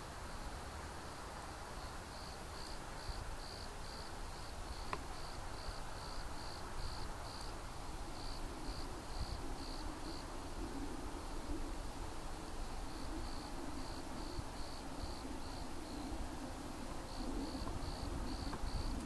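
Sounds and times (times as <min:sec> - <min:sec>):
cricket chirping: 0:01.8 - 0:19.0.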